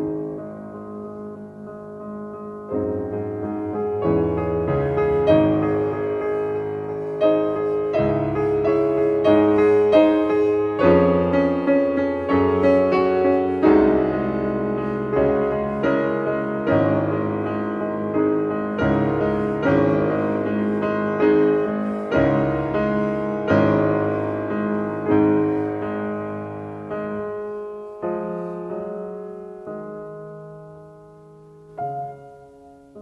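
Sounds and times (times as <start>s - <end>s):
slow solo piano music: 0.0s - 33.0s.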